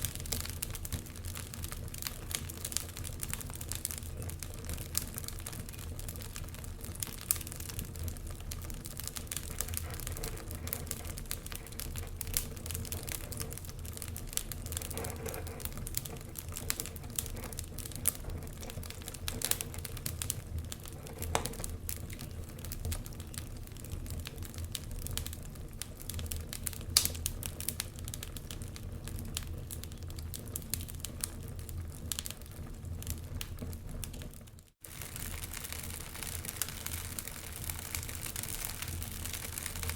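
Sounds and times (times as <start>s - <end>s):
low rumble of flames: 0.0s - 39.9s
wood logs crackling in fireplace: 0.0s - 39.9s.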